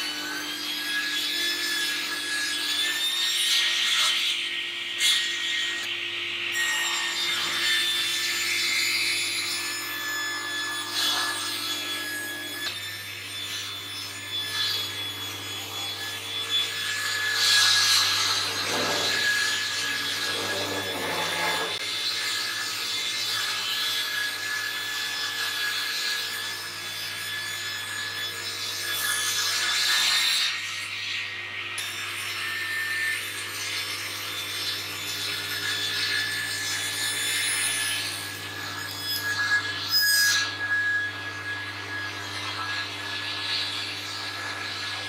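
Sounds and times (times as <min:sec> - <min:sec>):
panel saw cutting timber: 0:00.0 - 0:45.0.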